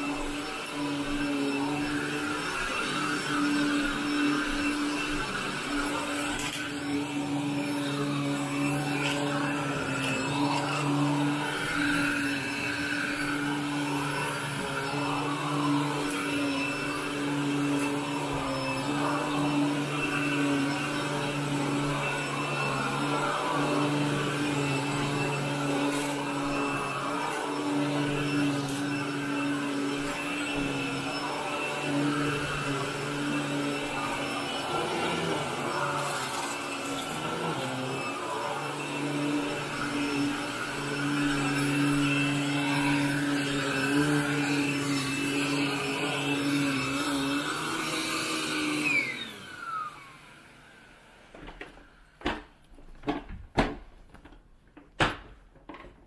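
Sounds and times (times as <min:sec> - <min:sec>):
vacuum cleaner running over carpet: 0:00.0 - 0:52.4.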